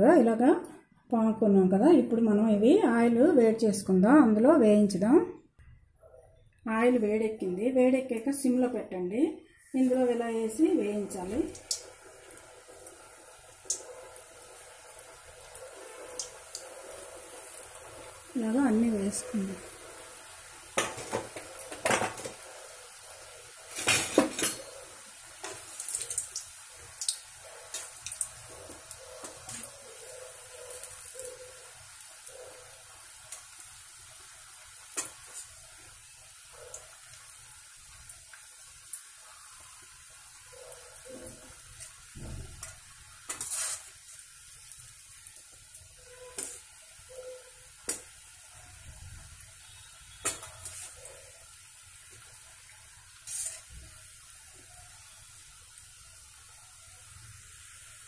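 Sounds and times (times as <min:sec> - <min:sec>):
pastries deep-frying in oil: 0:06.7 - 0:58.0.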